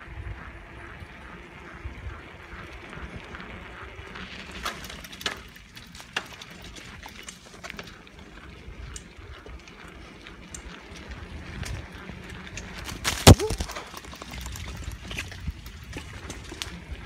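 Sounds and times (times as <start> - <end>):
bicycle tyres rumbling on pavement: 0.0 - 17.0.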